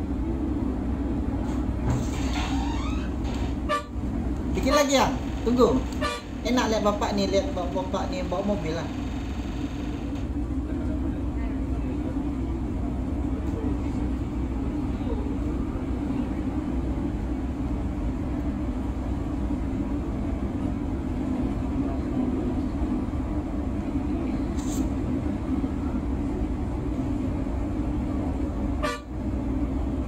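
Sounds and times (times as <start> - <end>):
bus engine drone: 0.0 - 30.0
road noise: 3.2 - 30.0.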